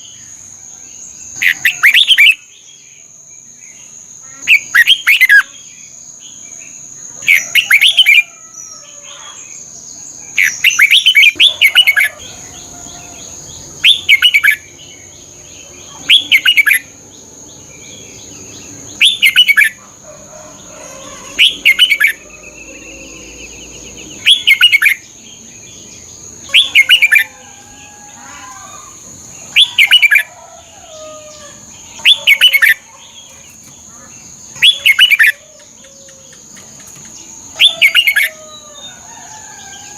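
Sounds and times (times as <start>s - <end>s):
bird singing chirping phrases: 0.0s - 39.9s.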